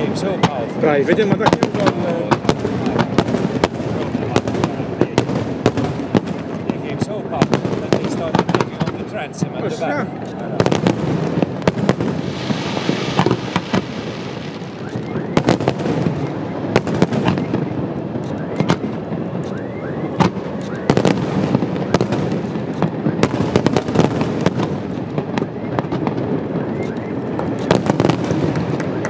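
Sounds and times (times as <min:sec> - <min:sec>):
crackling hiss: 0:00.0 - 0:29.0
firework shells bursting: 0:00.0 - 0:29.0.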